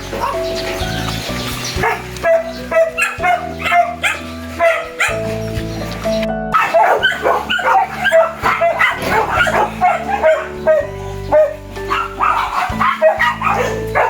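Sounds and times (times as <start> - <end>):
background music with sustained chords: 0.0 - 14.0
dogs yipping and barking: 0.0 - 14.0.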